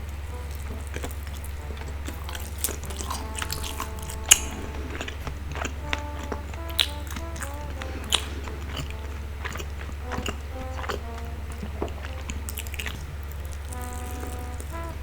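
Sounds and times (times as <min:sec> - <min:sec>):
bouncy background music: 0:00.0 - 0:15.0
steady low hum: 0:00.0 - 0:15.0.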